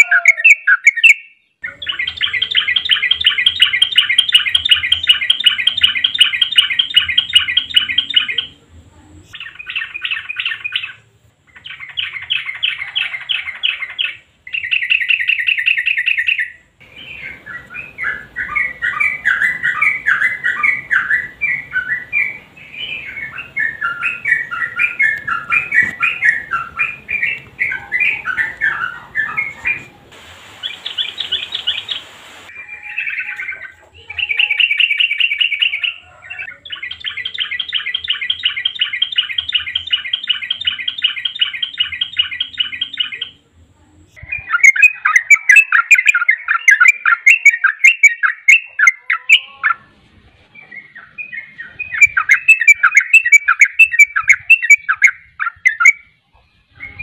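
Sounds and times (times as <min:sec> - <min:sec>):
rapid bird trill: 0:00.0 - 0:08.6, 0:09.3 - 0:29.9, 0:30.6 - 0:43.4, 0:44.3 - 0:49.9, 0:50.8 - 0:57.0
bulbuls singing warbled phrases: 0:00.0 - 0:50.0, 0:50.6 - 0:57.0.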